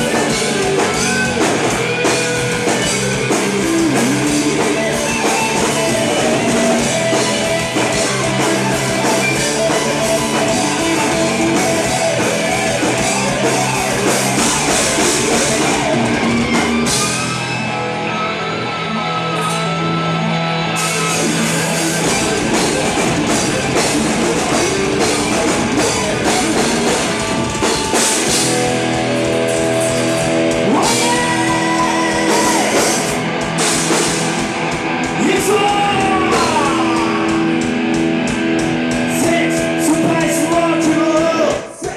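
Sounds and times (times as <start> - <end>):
drum kit: 0.0 - 17.8, 20.7 - 41.9
electric guitar: 0.0 - 41.9
rock band playing live: 0.0 - 41.9.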